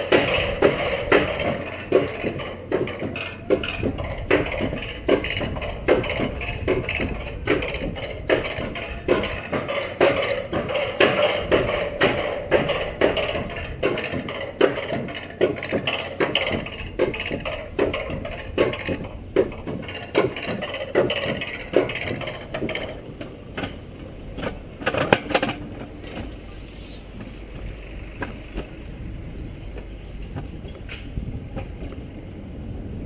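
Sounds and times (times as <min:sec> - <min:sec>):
coaster sled clattering on track: 0:00.0 - 0:33.0.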